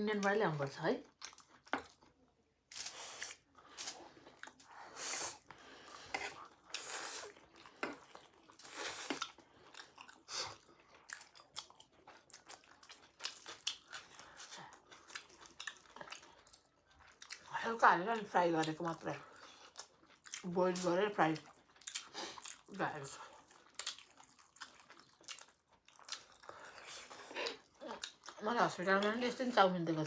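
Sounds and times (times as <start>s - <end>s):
close-up chewing: 1.0s - 29.2s.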